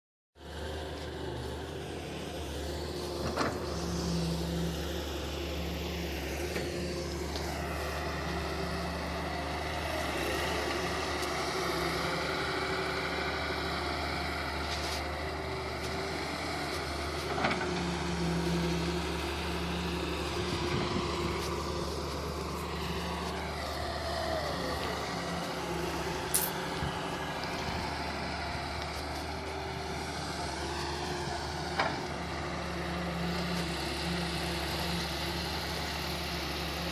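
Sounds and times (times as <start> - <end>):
diesel engine running: 0.4 - 36.9
hydraulic whine: 1.0 - 36.0.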